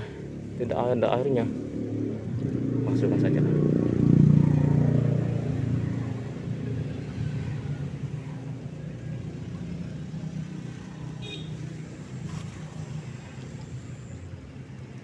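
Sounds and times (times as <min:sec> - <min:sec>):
motor vehicle engine rumbling: 0:00.0 - 0:15.0.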